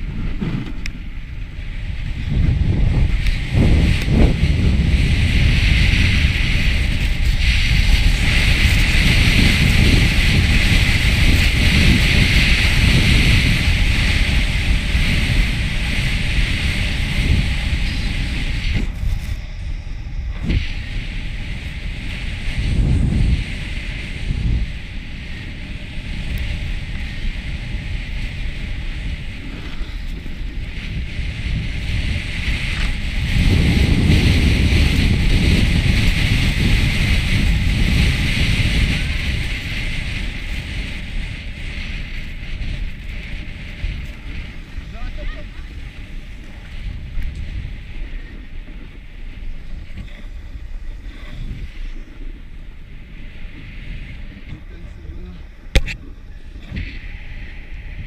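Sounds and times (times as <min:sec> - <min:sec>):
skis sliding over snow: 0:00.0 - 0:58.0
wind buffeting microphone: 0:00.0 - 0:58.0.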